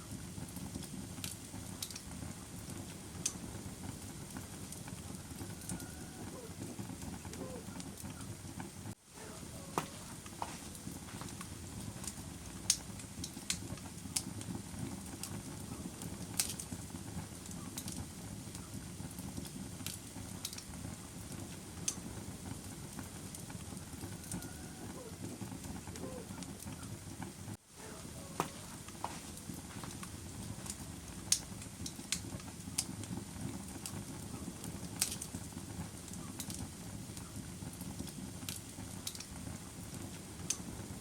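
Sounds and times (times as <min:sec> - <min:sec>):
fire crackling: 0:00.0 - 0:41.0.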